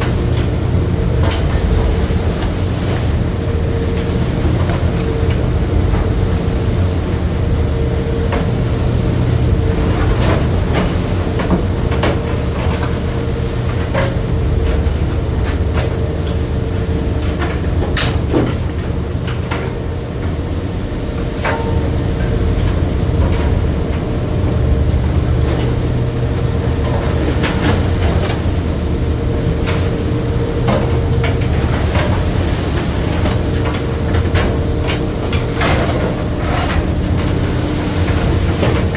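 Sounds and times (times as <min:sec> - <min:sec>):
boat engine humming: 0:00.0 - 0:38.9.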